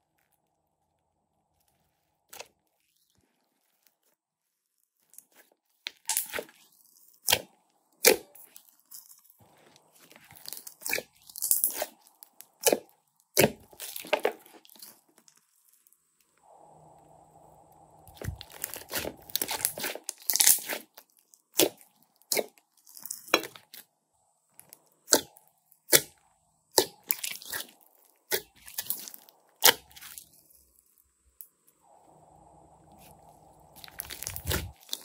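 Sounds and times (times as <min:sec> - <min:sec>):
slime crackling and squelching: 0:00.0 - 0:23.9, 0:24.5 - 0:32.0, 0:32.8 - 0:35.0.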